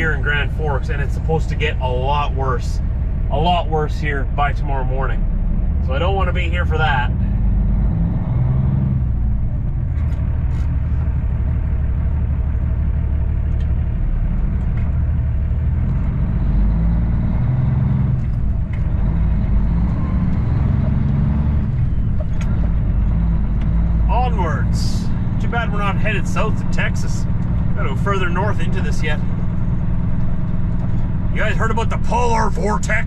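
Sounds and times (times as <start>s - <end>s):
truck diesel engine rumble: 0.0s - 33.0s.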